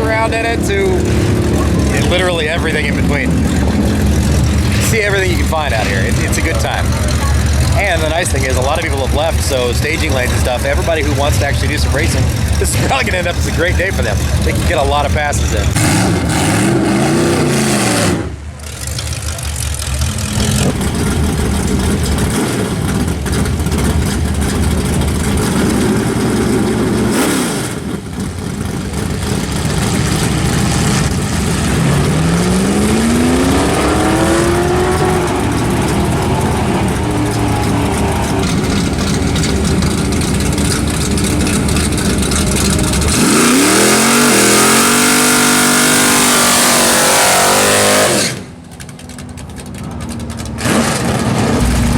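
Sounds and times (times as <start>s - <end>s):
drag racing cars accelerating: 0.0s - 51.9s.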